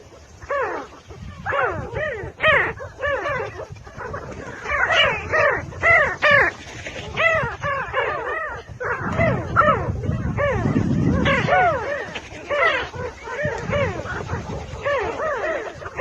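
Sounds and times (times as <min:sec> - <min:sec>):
birds calling harshly: 0:00.0 - 0:16.0.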